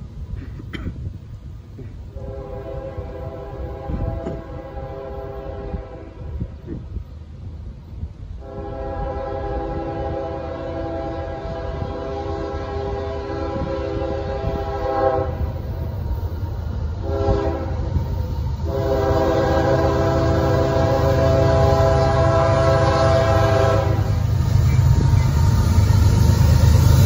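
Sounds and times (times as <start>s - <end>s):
low rumble of train: 0.0s - 27.0s
train air horn blasts: 2.1s - 6.6s, 8.4s - 27.0s.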